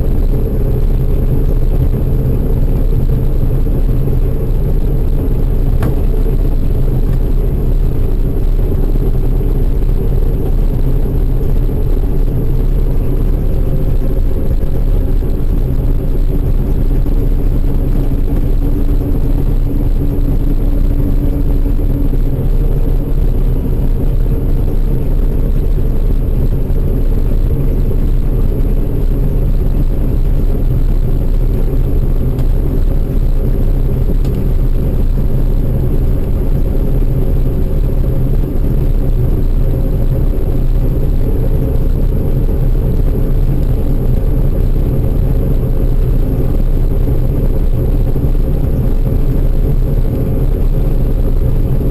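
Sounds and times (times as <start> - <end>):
heavy machinery engine droning: 0.0 - 51.9.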